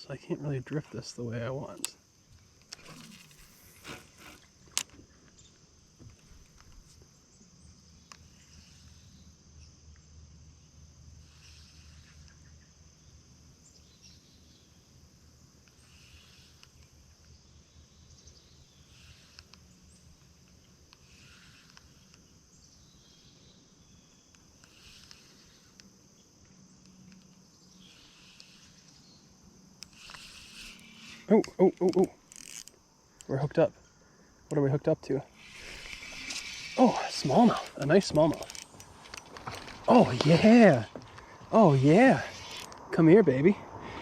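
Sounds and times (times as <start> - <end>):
faint insect trill: 0.0 - 44.0.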